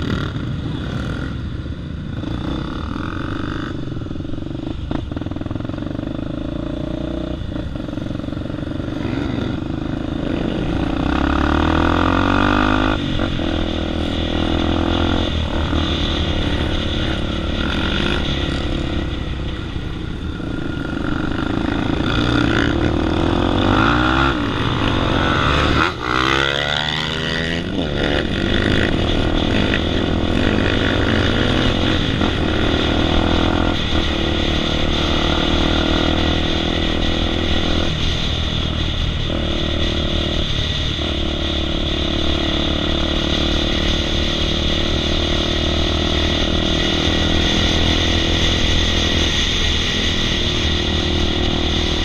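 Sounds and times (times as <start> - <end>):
motorcycle engine revving: 0.0 - 52.0
wind rush on microphone: 7.0 - 52.0.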